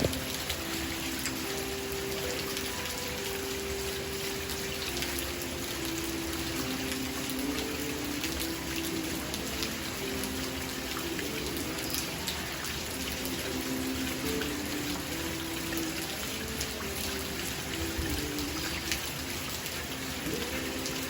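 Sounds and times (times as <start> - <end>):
rain drops pattering: 0.0 - 21.0.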